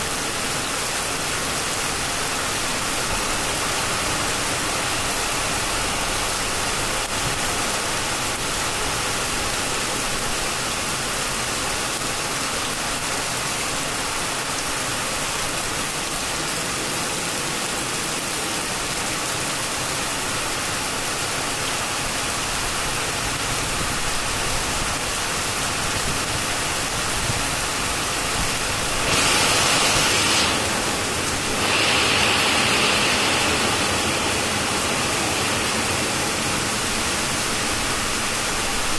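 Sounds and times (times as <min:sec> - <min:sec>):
heavy rain on trees: 0:00.0 - 0:38.9.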